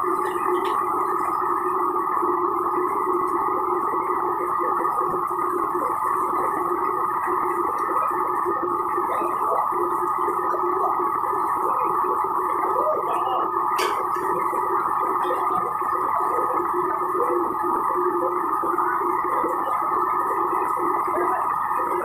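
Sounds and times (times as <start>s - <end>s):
gas burners roaring: 0.0s - 22.0s.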